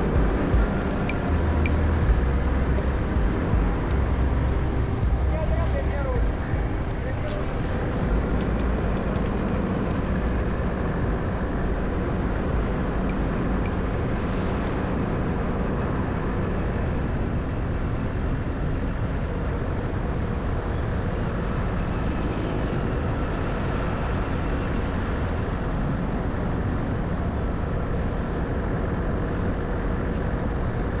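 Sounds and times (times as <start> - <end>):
car engine and tyre noise: 0.0 - 31.0.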